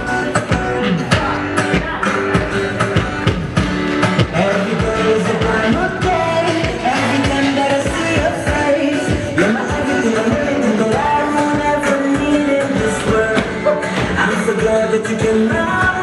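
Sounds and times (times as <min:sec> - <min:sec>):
person singing: 0:00.0 - 0:16.0
steady drum beat: 0:00.0 - 0:16.0.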